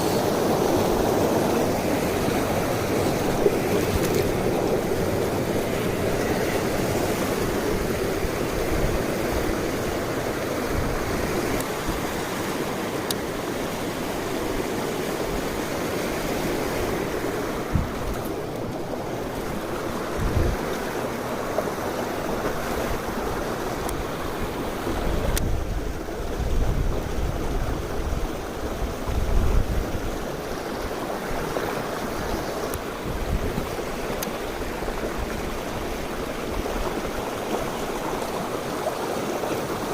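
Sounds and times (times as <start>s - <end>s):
mountain stream rushing over rocks: 0.0s - 39.9s
wind rumbling on microphone: 0.0s - 39.9s.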